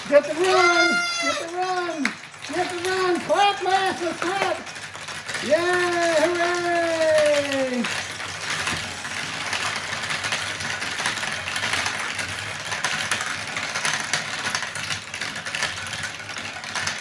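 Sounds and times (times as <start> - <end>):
glass marbles rattling down plastic track: 0.0 - 17.0.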